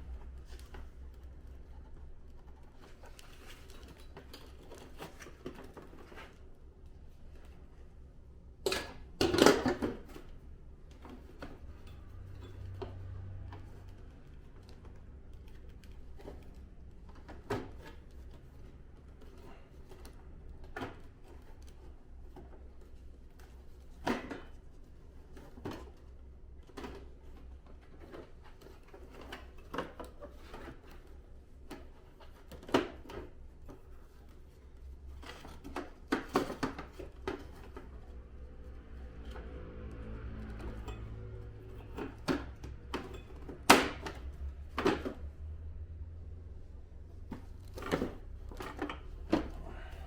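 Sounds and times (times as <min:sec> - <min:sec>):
clicks and knocks of plastic parts: 0:00.0 - 0:45.9.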